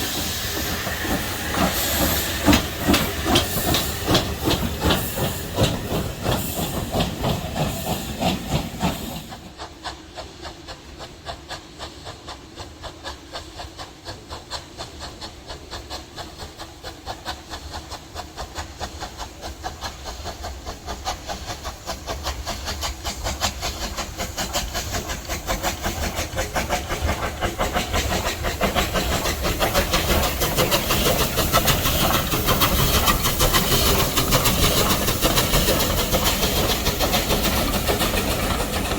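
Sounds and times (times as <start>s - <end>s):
steam hissing: 0.0s - 38.9s
steam locomotive rhythmic beat: 0.0s - 38.9s.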